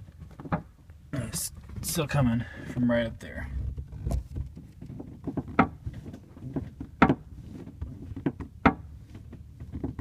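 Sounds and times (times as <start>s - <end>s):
sharp creaks of car interior trim: 1.6s - 10.0s.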